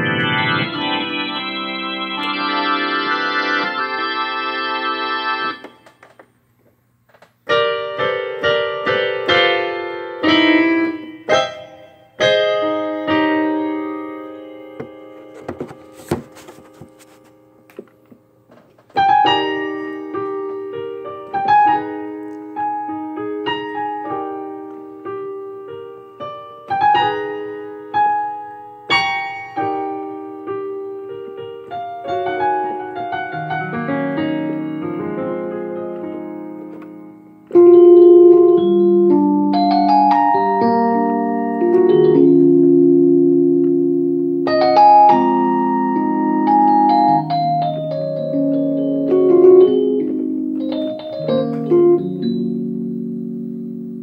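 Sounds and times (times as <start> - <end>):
piano chords on keyboard: 0.0 - 6.2, 7.4 - 54.0.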